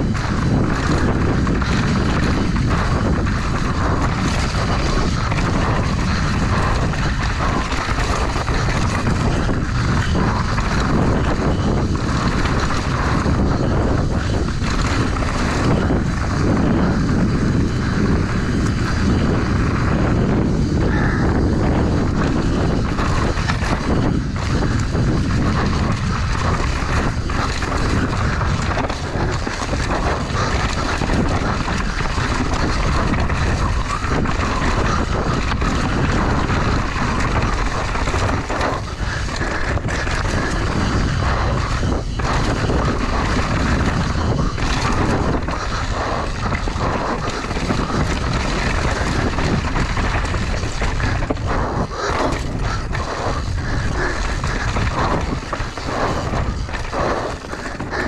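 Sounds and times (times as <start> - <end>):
bike rattling: 0.0 - 58.0
bike tyres rolling: 0.0 - 58.0
wind on microphone: 0.0 - 58.0.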